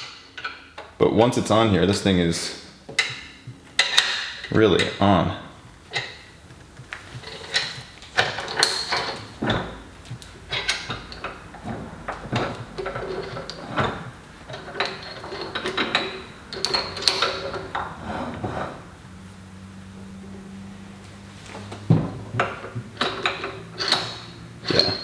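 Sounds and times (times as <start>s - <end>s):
metal vise clanking and rattling: 0.0s - 1.0s, 1.8s - 19.1s, 21.4s - 25.0s.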